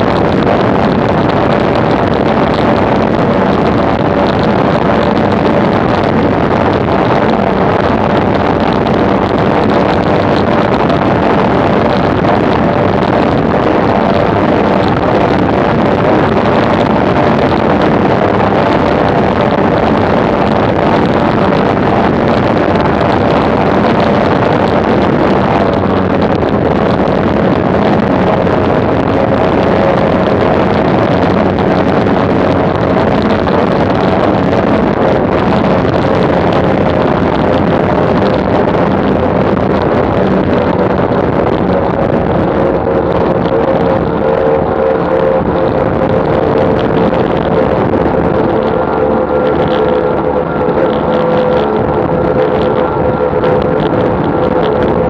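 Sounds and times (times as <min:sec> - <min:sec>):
outboard engines at high speed: 0:00.0 - 0:55.0
wind and spray rushing: 0:00.0 - 0:55.0.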